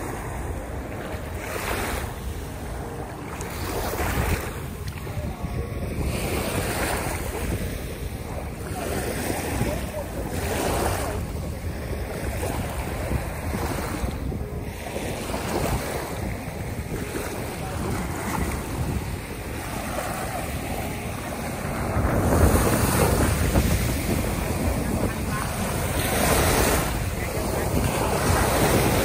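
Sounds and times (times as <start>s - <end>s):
waves lapping on shoreline: 0.0s - 29.0s
wind buffeting microphone: 0.0s - 29.0s.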